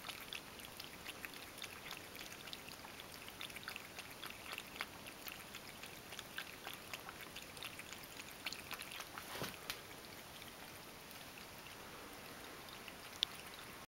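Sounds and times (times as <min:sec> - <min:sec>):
cat lapping water: 0:00.0 - 0:13.9.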